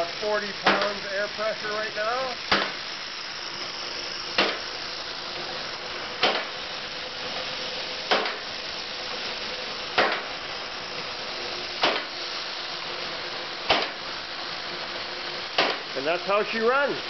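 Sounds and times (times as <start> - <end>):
steam engine hissing: 0.0 - 17.0.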